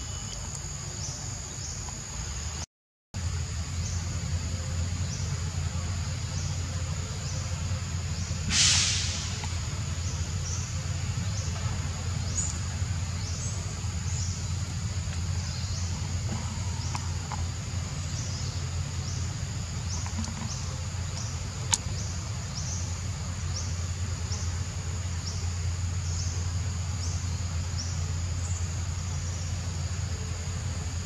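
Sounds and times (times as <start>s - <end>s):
steady low hum: 0.0s - 31.0s
insects buzzing in pulses: 3.2s - 31.0s.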